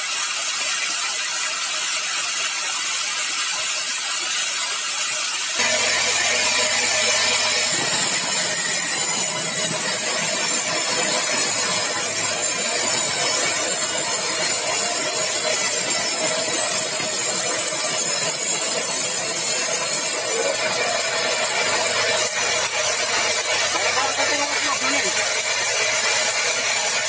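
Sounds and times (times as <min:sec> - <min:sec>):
saw cutting through log: 0:00.0 - 0:27.0.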